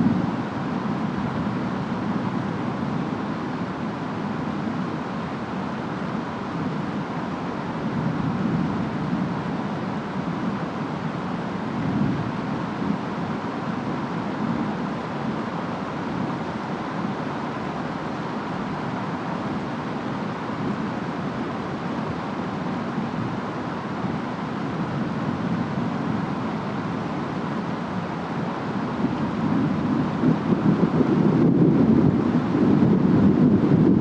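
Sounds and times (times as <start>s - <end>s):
storm rain and wind: 0.0s - 34.0s.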